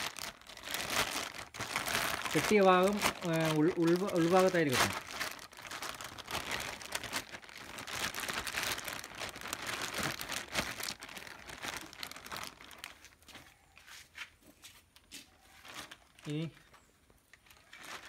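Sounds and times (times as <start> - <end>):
plastic bag crinkling: 0.0 - 13.6, 15.0 - 18.0.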